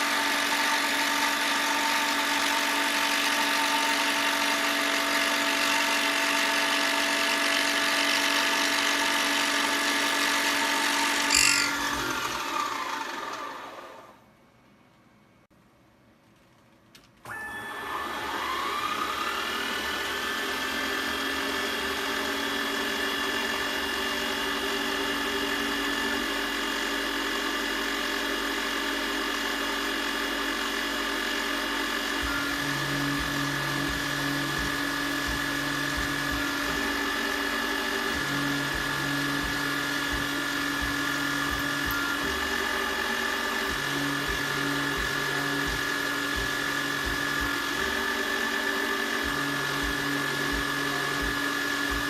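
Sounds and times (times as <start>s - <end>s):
power tool motor whining: 0.0s - 14.2s, 17.3s - 52.0s.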